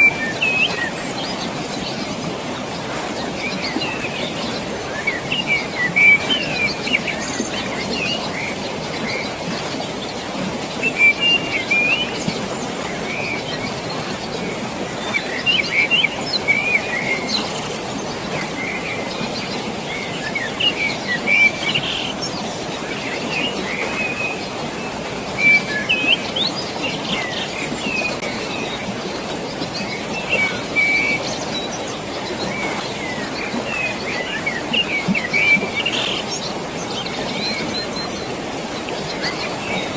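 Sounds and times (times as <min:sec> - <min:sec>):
birds chirping: 0:00.0 - 0:39.9
flowing water: 0:00.0 - 0:39.9.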